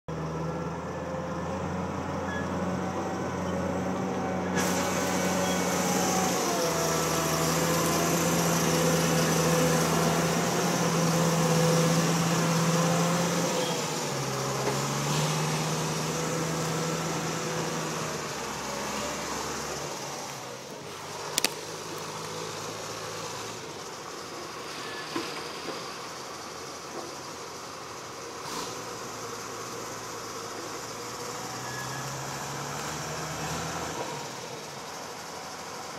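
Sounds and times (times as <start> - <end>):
diesel engine running under load: 0.1 - 35.9.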